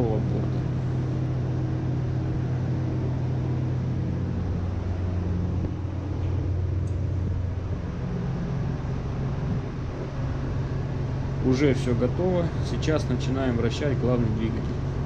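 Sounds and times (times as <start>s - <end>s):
engine room machinery drone: 0.0s - 15.0s.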